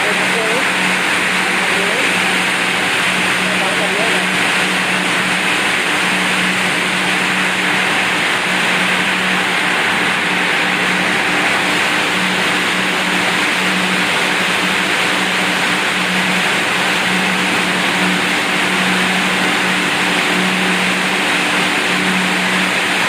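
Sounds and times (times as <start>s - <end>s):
machine whirring: 0.0s - 23.0s
steady low hum: 0.0s - 23.0s.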